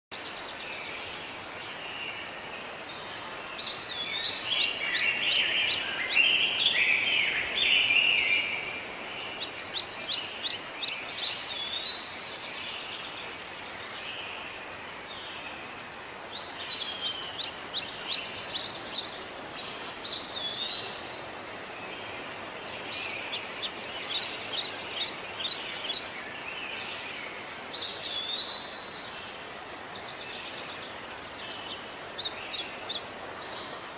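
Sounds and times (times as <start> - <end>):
songbirds singing: 0.1 - 33.9
steady background hiss: 0.1 - 33.9.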